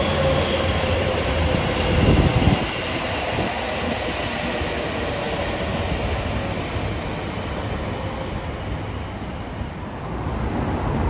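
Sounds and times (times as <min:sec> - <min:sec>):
thin high train whine: 0:00.0 - 0:11.0
train wheels rumbling on rails: 0:00.0 - 0:11.0.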